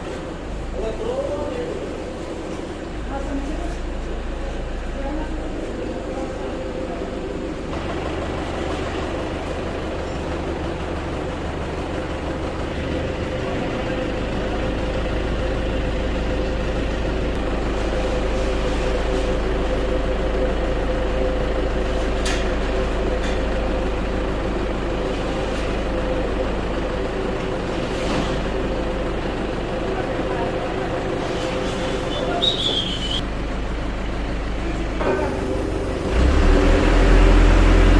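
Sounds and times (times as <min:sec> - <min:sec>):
truck engine running: 0:00.0 - 0:37.9.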